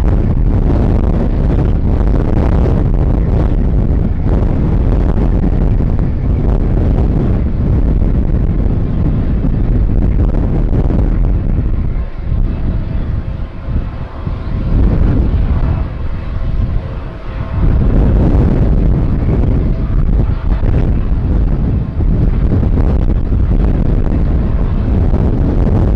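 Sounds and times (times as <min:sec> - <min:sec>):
jet airliner passing overhead: 0:00.0 - 0:25.9
wind buffeting microphone: 0:00.0 - 0:25.9.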